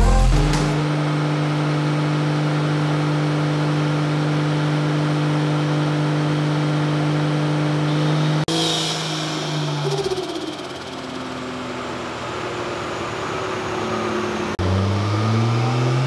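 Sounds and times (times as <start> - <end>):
car engine droning on dyno: 0.0 - 16.0.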